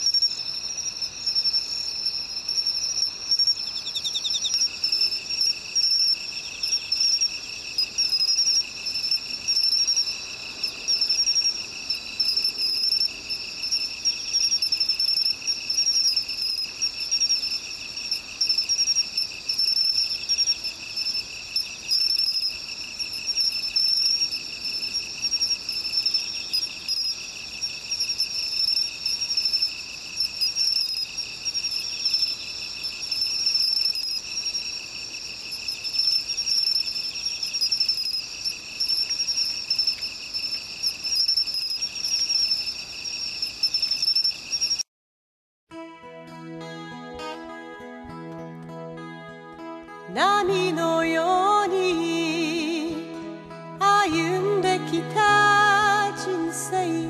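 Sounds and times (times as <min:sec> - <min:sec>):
insects trilling: 0:00.0 - 0:44.8, 0:50.1 - 0:57.0.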